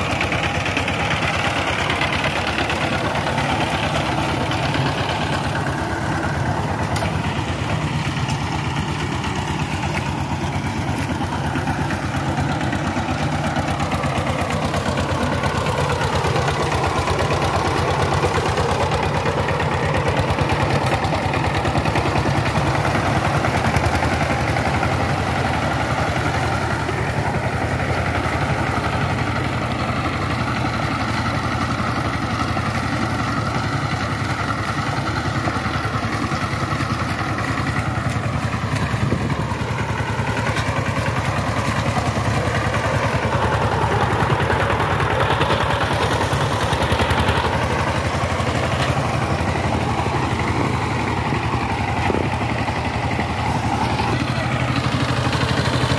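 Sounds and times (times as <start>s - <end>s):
diesel engine running under load: 0.0s - 55.9s
wheels working through flooded field: 0.0s - 55.9s.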